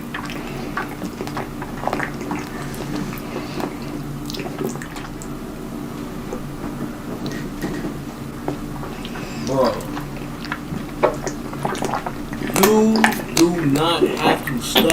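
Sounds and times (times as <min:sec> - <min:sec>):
wet chewing and lip smacking: 0:00.0 - 0:05.4, 0:06.0 - 0:14.9.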